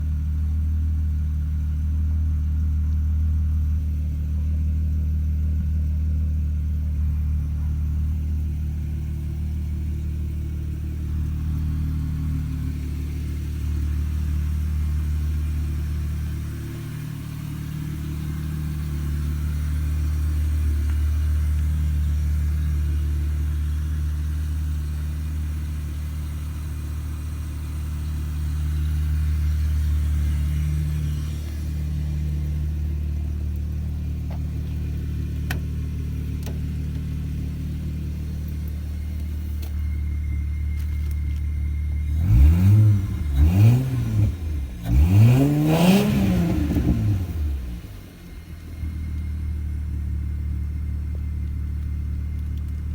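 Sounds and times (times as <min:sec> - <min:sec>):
car engine idling with deep rumble: 0:00.0 - 0:52.9.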